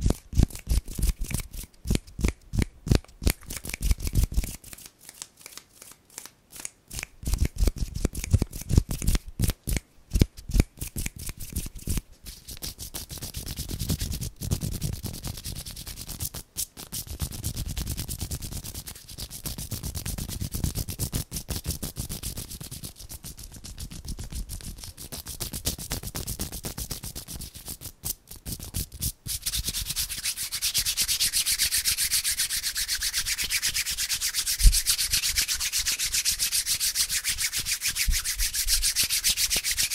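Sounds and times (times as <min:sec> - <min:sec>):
hands rubbing together: 0:00.0 - 0:39.9.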